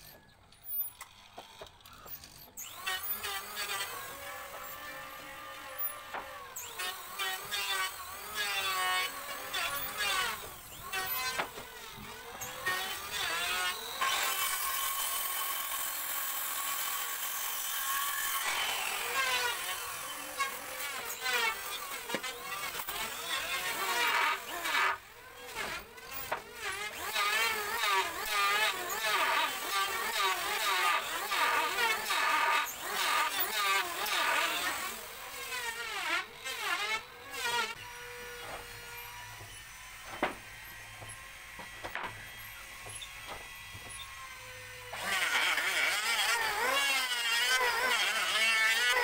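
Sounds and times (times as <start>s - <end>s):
power tool whining: 0.0s - 49.0s
electric planer cutting wood: 2.6s - 49.0s.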